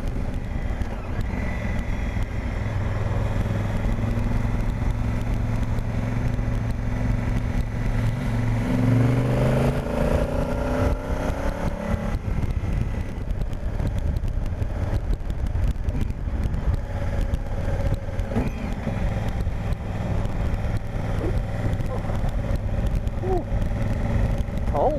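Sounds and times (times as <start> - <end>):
motorcycle engine accelerating: 0.0 - 24.9
wind and road noise: 0.0 - 24.9.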